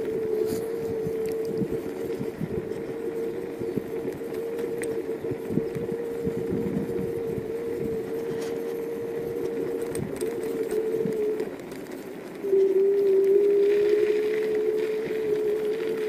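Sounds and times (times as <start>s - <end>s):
electric scooter motor whine: 0.0s - 16.0s
tyres rumbling on rough road: 0.0s - 16.0s.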